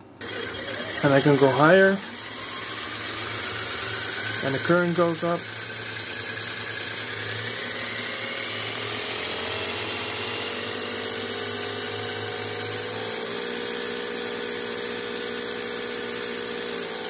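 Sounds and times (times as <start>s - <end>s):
drill motor whirring: 0.0s - 17.0s.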